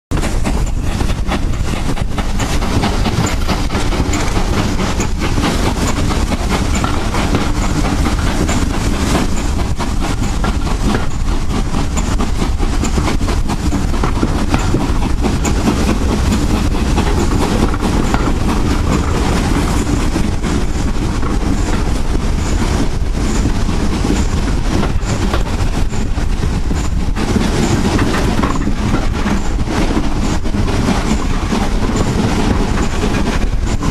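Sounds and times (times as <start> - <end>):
steam locomotive exhaust beats: 0.1 - 33.9
train noise: 0.1 - 33.9.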